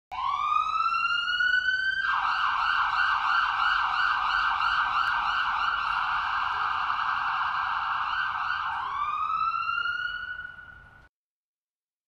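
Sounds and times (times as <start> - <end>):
electronic siren wailing: 0.1 - 11.1.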